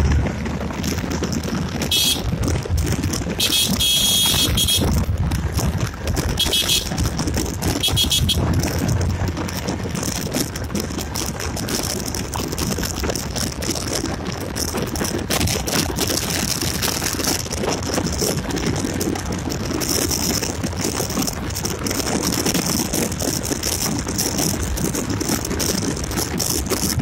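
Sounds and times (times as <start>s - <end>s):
motorcycle engine running: 0.0s - 27.0s
wind rush and road noise: 0.0s - 27.0s.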